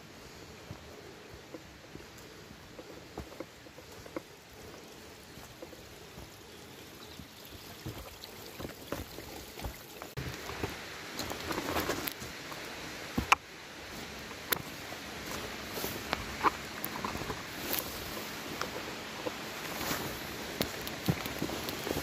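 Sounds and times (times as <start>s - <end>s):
footsteps on twigs and leaves: 0.2s - 22.0s
stream running over stones: 0.5s - 22.0s.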